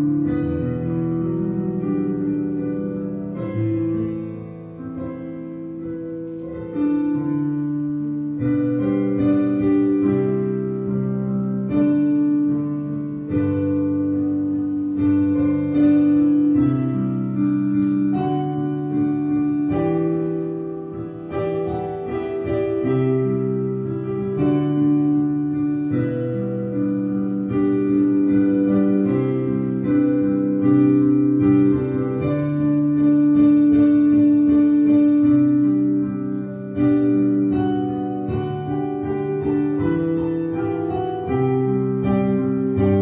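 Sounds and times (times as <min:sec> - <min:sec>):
slow keyboard chords: 0:00.0 - 0:43.0.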